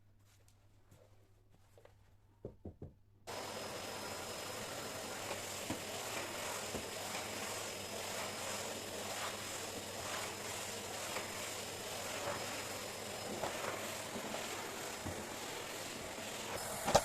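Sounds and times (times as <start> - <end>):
steady hiss: 3.3 - 17.0.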